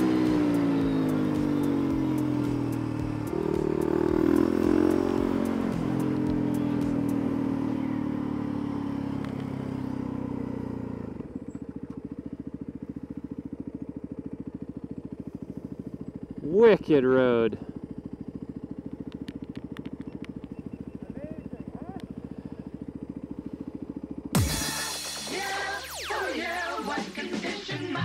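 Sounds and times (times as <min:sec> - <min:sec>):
motorcycle engine slowing and downshifting: 0:00.0 - 0:28.0.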